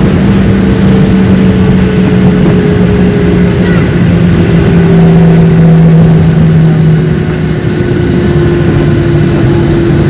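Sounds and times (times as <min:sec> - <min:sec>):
jet engines spooling down: 0:00.0 - 0:10.0
low rumble: 0:00.0 - 0:10.0.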